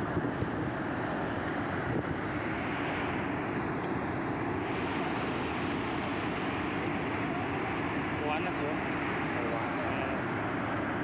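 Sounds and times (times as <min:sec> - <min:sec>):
volcanic gas venting roar: 0:00.0 - 0:11.0.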